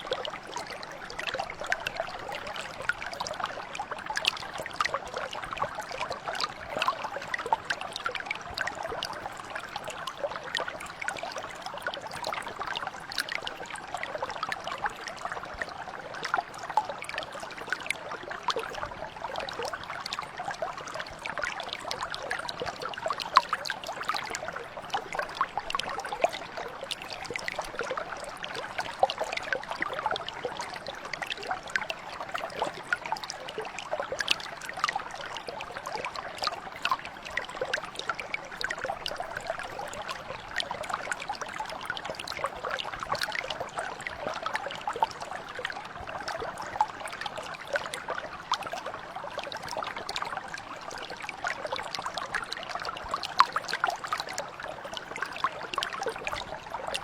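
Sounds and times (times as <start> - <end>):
brook burbling over stones: 0.0 - 57.0.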